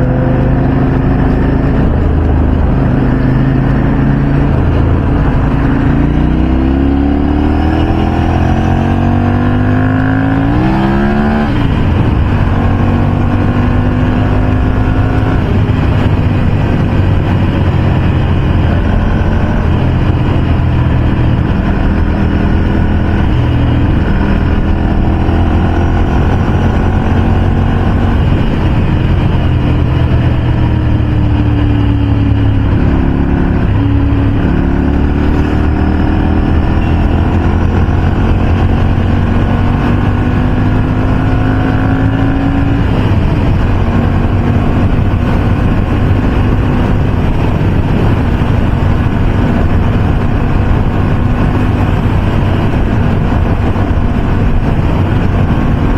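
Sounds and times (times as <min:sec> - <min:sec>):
motorcycle engine pulling hard: 0:00.0 - 0:55.9
wind rush: 0:00.0 - 0:55.9.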